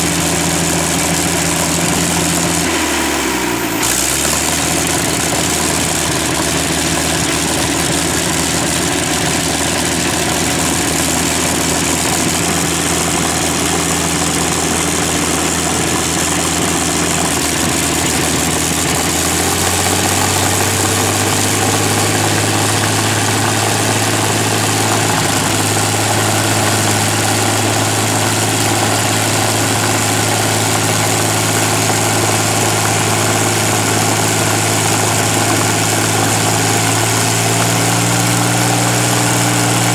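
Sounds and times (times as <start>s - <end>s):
aero engine running: 0.0s - 39.9s.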